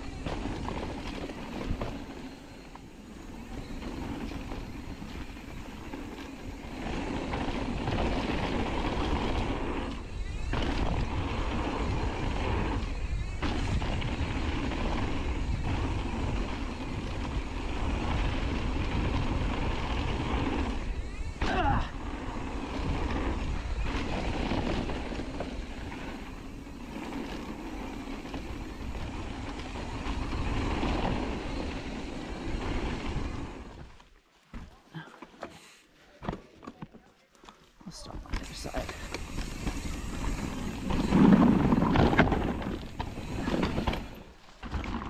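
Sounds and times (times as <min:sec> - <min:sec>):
wind buffeting microphone: 0:00.0 - 0:33.8, 0:38.5 - 0:44.4
bike rattling over bumps: 0:00.0 - 0:34.8, 0:38.4 - 0:45.0
bike tyre noise on dirt: 0:00.0 - 0:45.0.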